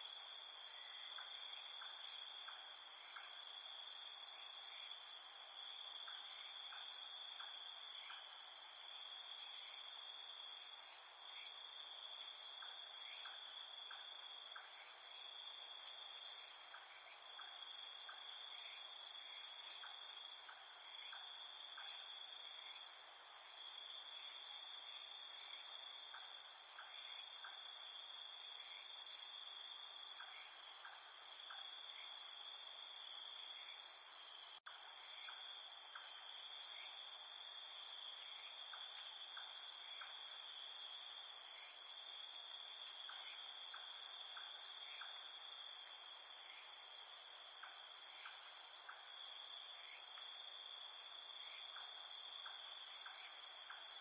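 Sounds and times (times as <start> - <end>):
faint insect chirps: 0.0 - 54.0.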